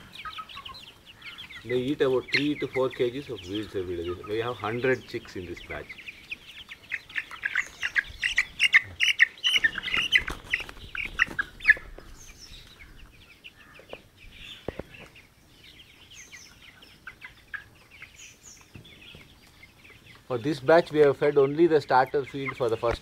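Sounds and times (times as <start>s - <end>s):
chicks cheeping: 0.0s - 23.0s.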